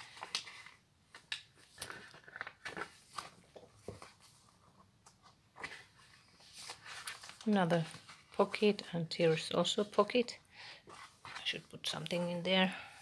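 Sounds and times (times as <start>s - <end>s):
paper pages rustling: 0.0s - 9.9s, 10.8s - 12.4s.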